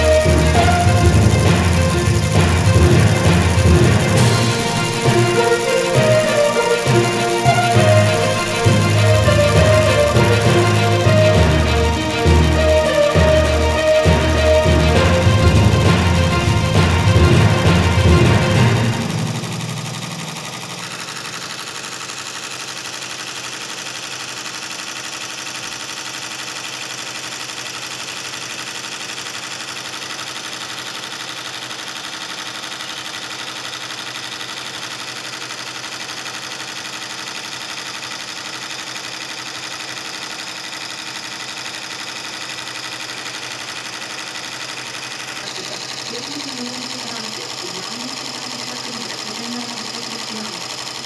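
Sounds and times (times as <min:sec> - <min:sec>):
embroidery machine stitching: 0:00.0 - 0:51.0.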